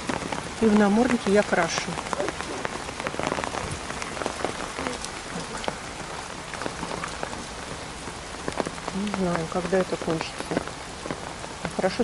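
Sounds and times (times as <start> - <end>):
heavy rain falling: 0.0 - 12.0
raindrops tapping on umbrella: 0.0 - 12.0.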